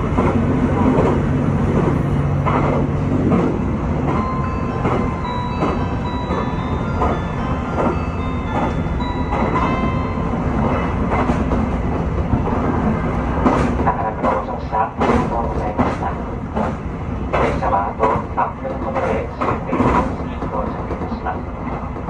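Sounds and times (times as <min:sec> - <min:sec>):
wheels clacking over rail joints: 0:00.0 - 0:21.2
train engine drone: 0:00.0 - 0:22.0.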